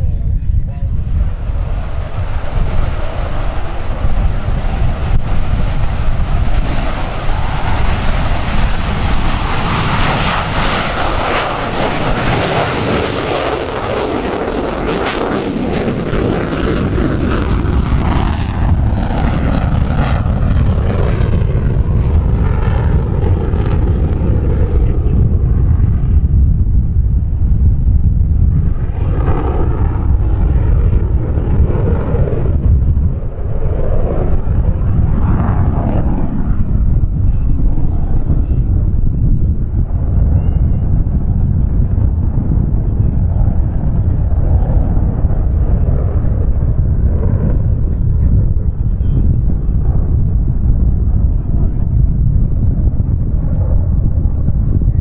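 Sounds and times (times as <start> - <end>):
jet roar taking off: 0.9 - 55.0.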